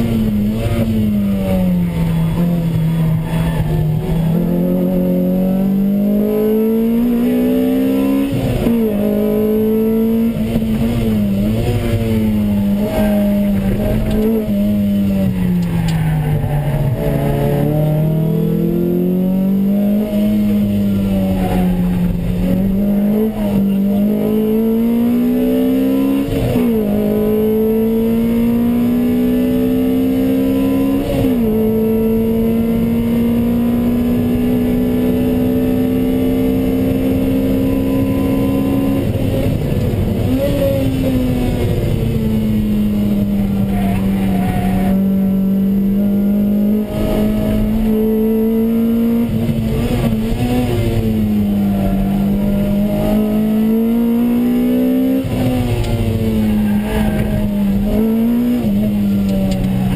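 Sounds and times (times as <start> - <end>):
car engine revving: 0.0 - 59.9
engine blips on downshifts: 0.0 - 59.9.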